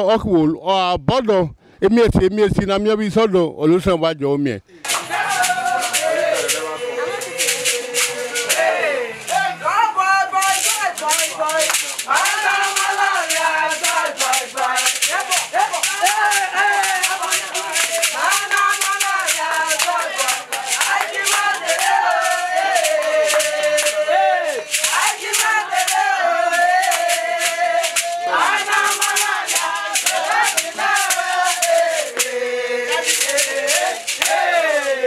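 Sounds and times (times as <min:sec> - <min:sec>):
fast shaker rhythm: 0:04.8 - 0:35.0.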